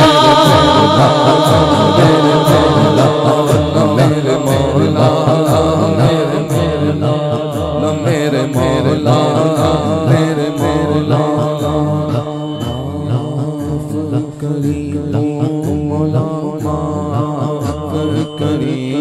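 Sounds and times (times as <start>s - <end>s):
man singing into a microphone: 0.0s - 19.0s
steady drone: 0.0s - 19.0s.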